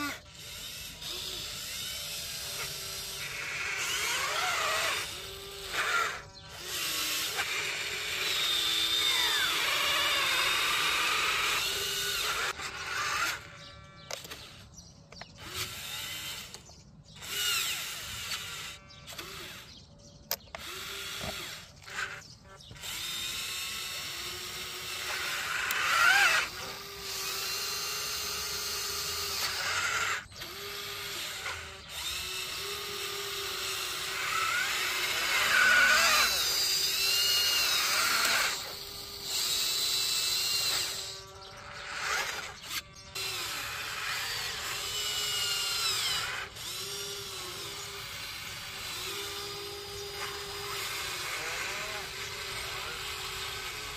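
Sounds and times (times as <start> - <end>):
electric motors whining: 0.0 - 53.9.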